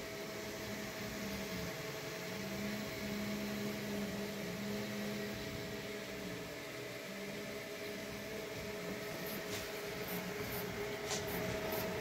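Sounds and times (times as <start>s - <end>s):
fan hum and hiss: 0.0s - 12.0s
printer motor whine: 0.0s - 12.0s.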